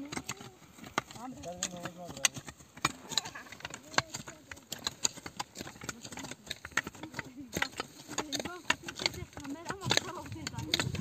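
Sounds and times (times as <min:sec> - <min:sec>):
hoes chopping into soil: 0:00.0 - 0:11.0.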